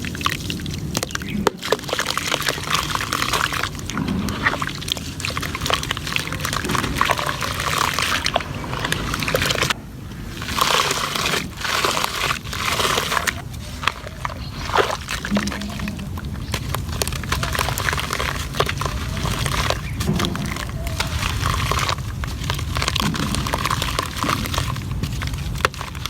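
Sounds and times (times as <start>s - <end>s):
cement crumbling in water: 0.0s - 26.0s
water sloshing and pouring: 0.0s - 26.0s.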